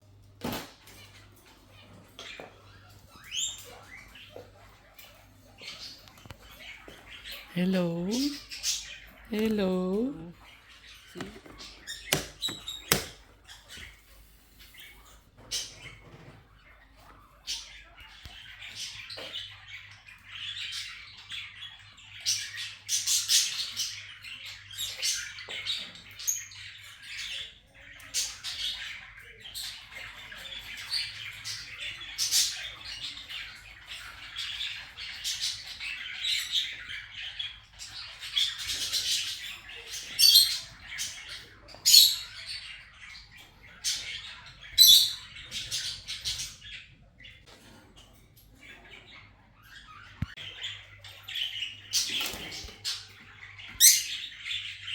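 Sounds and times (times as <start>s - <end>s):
parakeets chattering and squawking: 0.1s - 54.9s.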